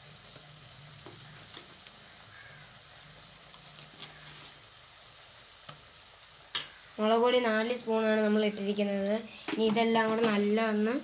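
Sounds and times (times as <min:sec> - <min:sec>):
onions frying in oil: 0:00.0 - 0:11.0.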